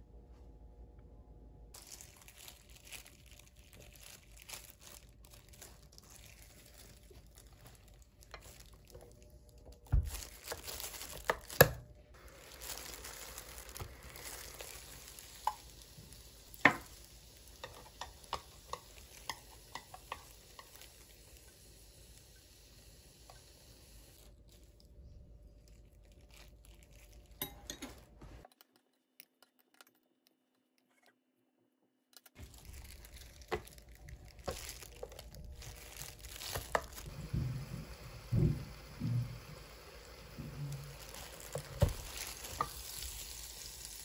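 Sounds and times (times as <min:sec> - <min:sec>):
faint food sizzling: 0:01.7 - 0:28.5, 0:32.4 - 0:44.0.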